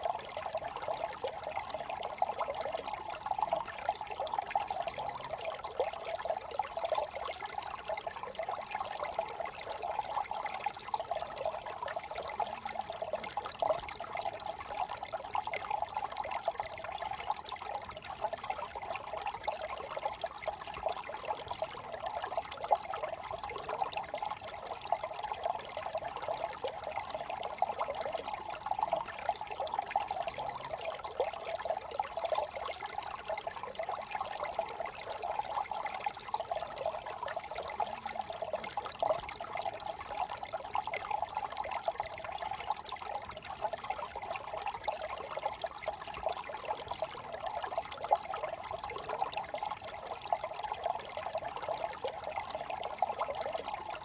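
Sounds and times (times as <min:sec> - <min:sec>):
brook trickling: 0:00.0 - 0:54.0.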